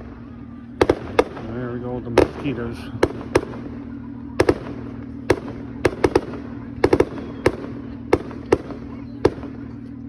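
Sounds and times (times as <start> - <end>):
steady low hum: 0.0 - 10.0
fireworks bangs: 0.7 - 9.8.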